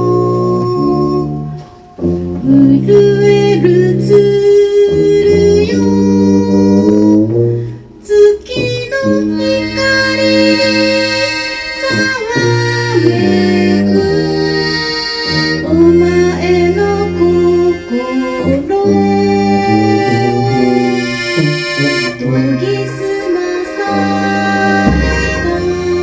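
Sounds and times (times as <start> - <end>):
small band with accordion: 0.0 - 26.0.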